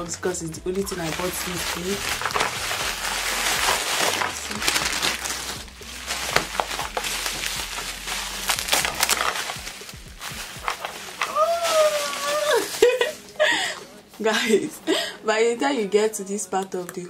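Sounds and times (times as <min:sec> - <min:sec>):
plastic packaging crinkling: 0:00.0 - 0:13.9
bubble wrap crackling: 0:00.0 - 0:14.2.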